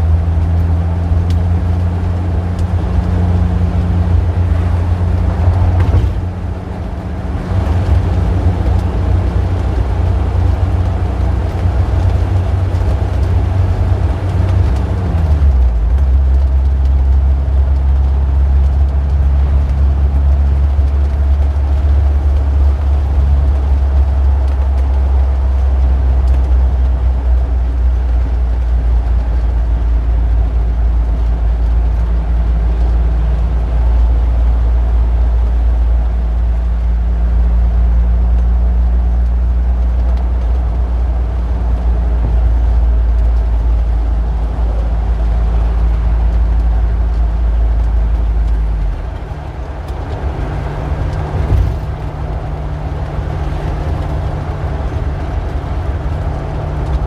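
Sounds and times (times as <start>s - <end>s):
passing vehicle engines rumbling: 0.0s - 57.0s.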